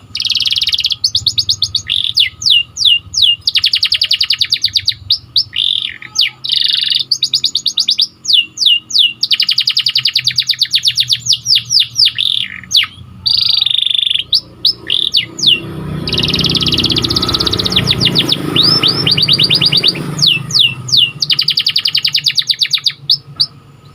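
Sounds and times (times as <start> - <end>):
canary singing: 0.0 - 23.9.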